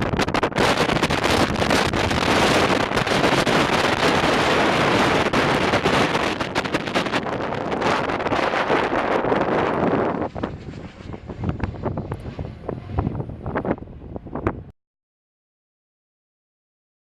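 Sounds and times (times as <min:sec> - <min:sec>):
gusty wind buffeting microphone: 0:00.0 - 0:14.7.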